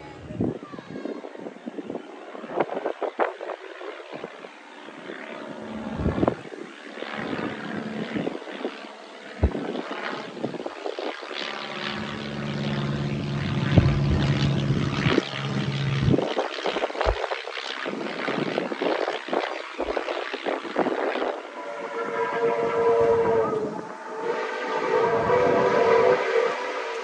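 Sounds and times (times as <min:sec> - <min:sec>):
propeller aircraft engine drone: 0:00.0 - 0:27.0.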